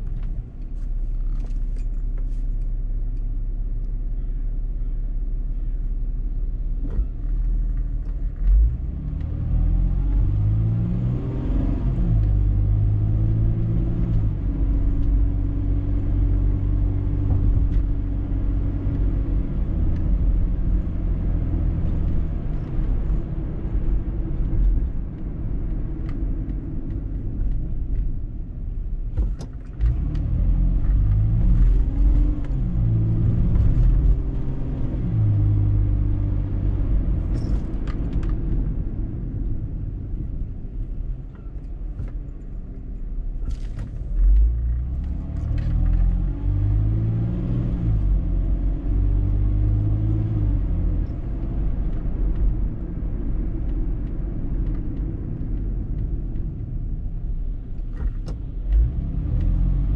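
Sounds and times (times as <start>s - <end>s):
road rumble inside car: 0.0s - 59.9s
car engine accelerating: 6.7s - 28.1s, 29.0s - 41.3s, 42.0s - 59.9s.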